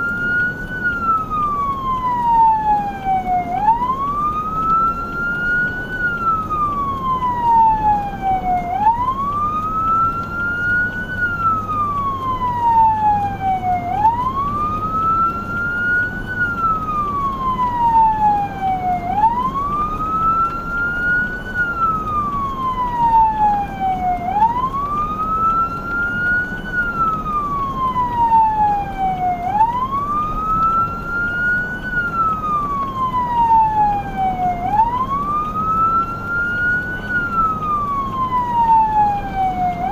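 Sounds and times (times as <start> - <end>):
emergency siren wailing: 0.0 - 39.9.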